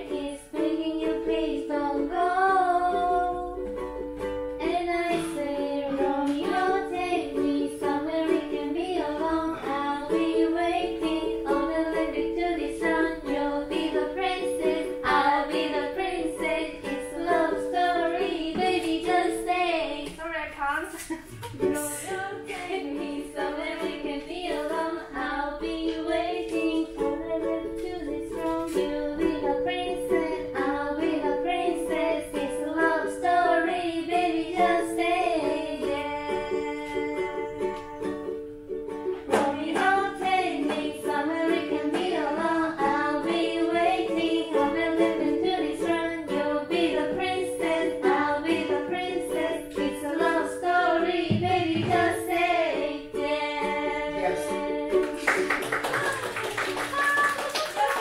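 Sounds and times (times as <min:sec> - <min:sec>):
women singing: 0:00.0 - 0:03.8, 0:04.6 - 0:20.5, 0:21.2 - 0:38.4, 0:39.2 - 0:58.0
strummed ukulele: 0:00.0 - 0:20.2, 0:20.9 - 0:58.0
acoustic guitar: 0:00.0 - 0:57.2.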